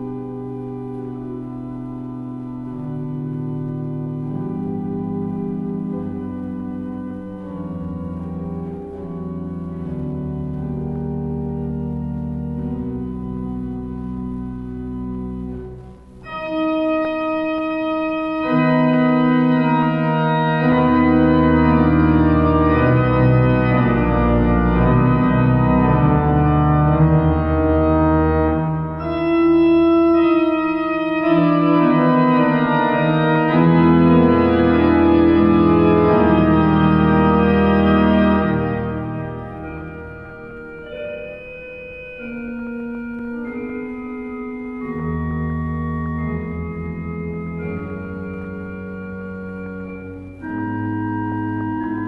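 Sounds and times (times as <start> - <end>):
pipe organ playing chords: 0.0 - 52.0.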